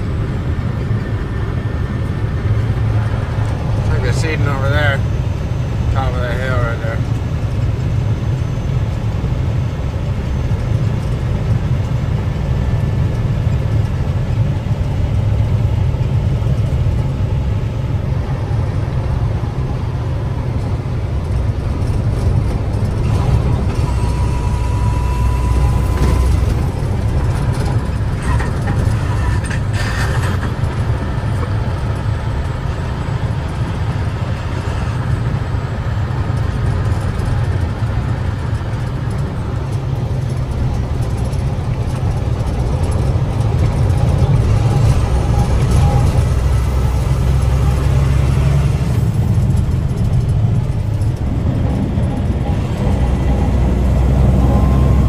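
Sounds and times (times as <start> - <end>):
truck driving on gravel: 0.0 - 55.0.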